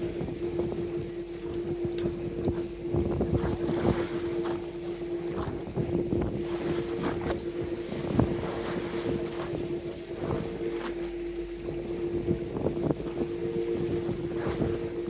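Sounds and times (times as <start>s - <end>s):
boat engine humming: 0.0s - 15.0s
choppy water splashing: 0.0s - 15.0s
wind buffeting microphone: 0.0s - 15.0s.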